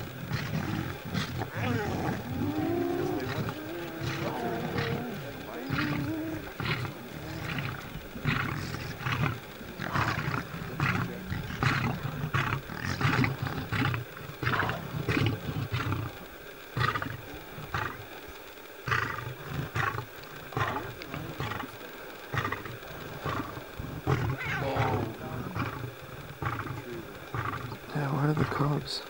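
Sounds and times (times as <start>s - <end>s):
hyenas calling: 0.0s - 29.0s
lion growling: 0.0s - 29.0s.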